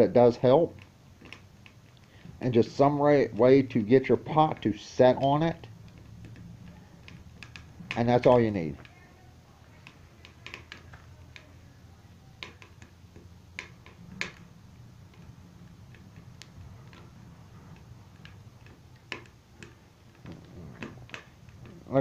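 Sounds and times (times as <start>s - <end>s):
faint low hum: 0.0s - 22.0s
wood fire crackling and popping: 0.0s - 22.0s.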